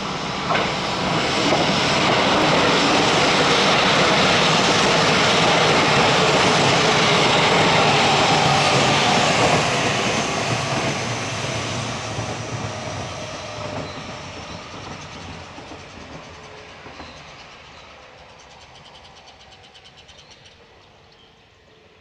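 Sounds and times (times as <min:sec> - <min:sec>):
electric train pulling away: 0:00.0 - 0:22.0.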